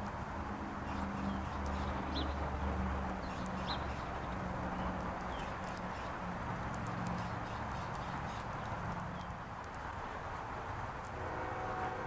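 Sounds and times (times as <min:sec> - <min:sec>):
small songbirds chirping: 0:00.0 - 0:10.4
faint light ticks of birds feeding: 0:00.0 - 0:11.2
steady outdoor hiss and hum: 0:00.0 - 0:12.0.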